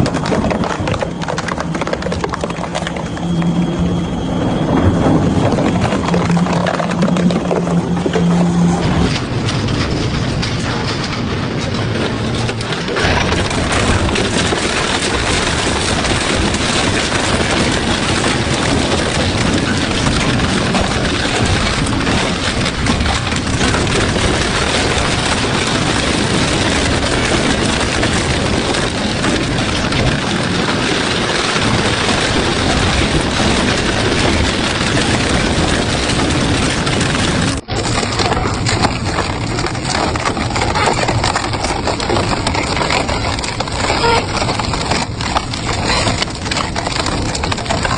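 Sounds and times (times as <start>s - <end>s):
shredder grinding scrap: 0.0s - 47.9s.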